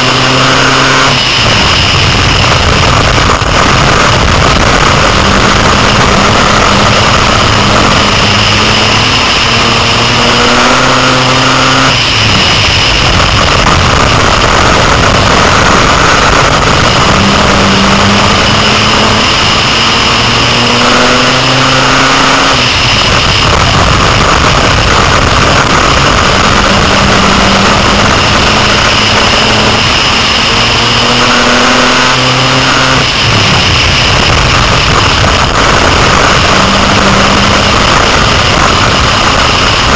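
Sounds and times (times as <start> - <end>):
race car engine revving: 0.0 - 39.9
wind and track noise: 0.0 - 39.9.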